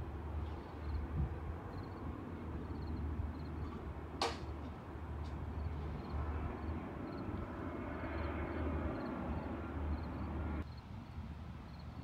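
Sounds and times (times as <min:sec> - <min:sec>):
outdoor background rumble: 0:00.0 - 0:11.9.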